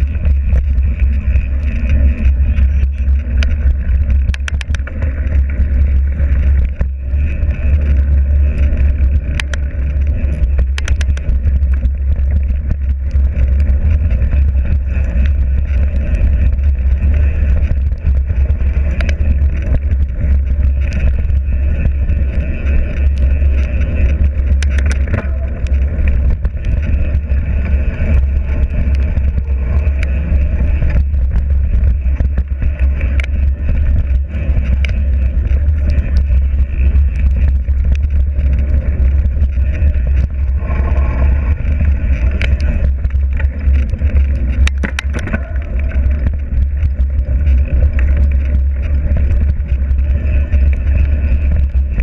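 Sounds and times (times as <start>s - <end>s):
clicks and rattles: 0.0s - 52.0s
vehicle rumbling: 0.0s - 52.0s.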